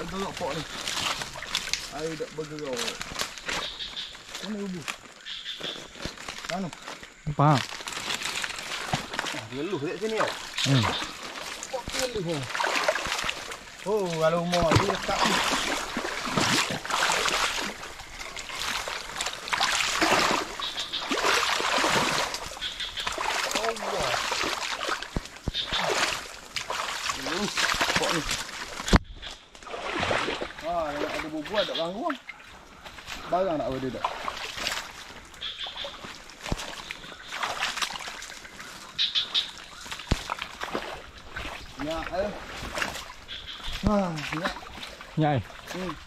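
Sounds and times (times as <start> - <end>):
wading through water splashing: 0.0 - 46.0.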